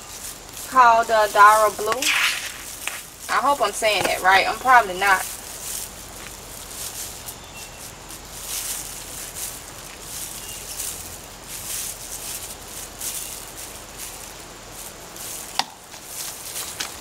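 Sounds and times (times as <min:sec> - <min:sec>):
hands digging through loose soil: 0:00.0 - 0:17.0.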